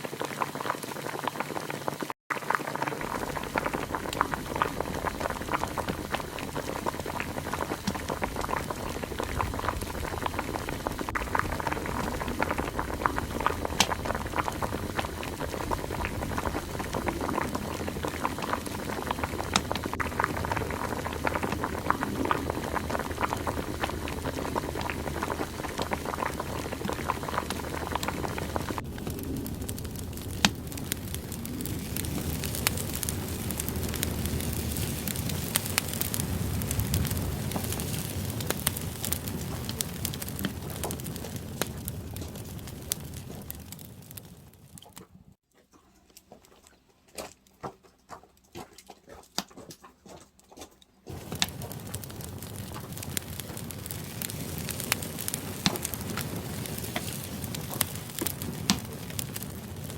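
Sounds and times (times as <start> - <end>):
pot of water boiling: 0.0 - 59.9
firewood crackling: 2.0 - 45.4, 46.0 - 59.9.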